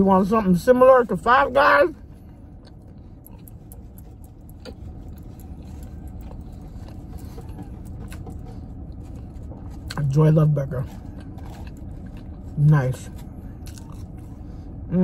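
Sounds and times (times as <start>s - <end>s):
low rumble inside car: 0.0s - 15.0s
chewing: 2.2s - 14.7s.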